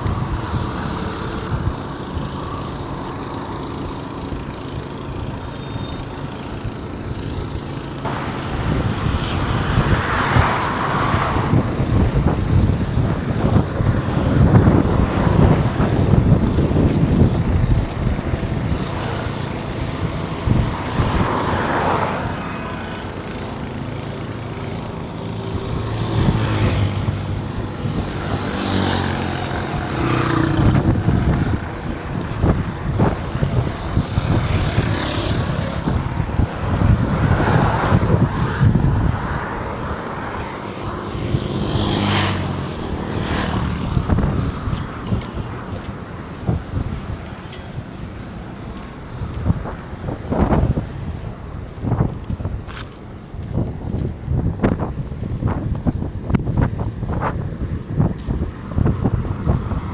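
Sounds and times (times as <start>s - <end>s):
steady engine hum: 0.0s - 59.9s
vehicles passing: 0.0s - 59.9s.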